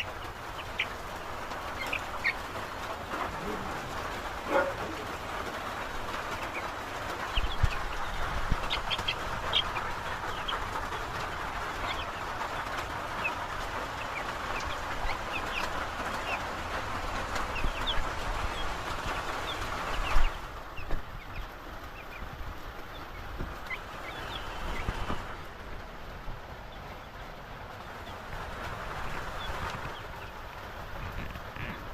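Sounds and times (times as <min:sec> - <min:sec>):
chickens chirping and peeping: 0:00.0 - 0:31.9
steady rain falling: 0:00.0 - 0:31.9.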